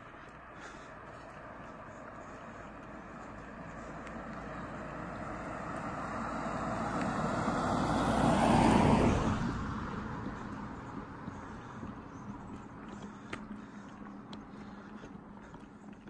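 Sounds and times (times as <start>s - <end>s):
van passing on asphalt: 0.0s - 16.0s.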